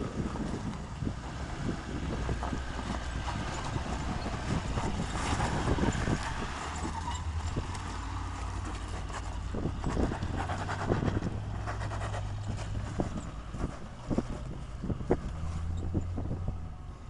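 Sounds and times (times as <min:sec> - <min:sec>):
off-road vehicle engine running: 0:00.0 - 0:17.0
knocks and rustling over rock: 0:00.1 - 0:16.5.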